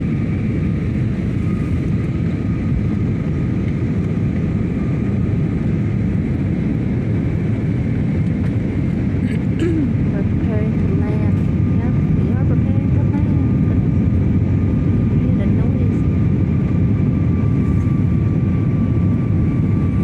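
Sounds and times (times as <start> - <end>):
airplane engines droning: 0.0 - 20.0.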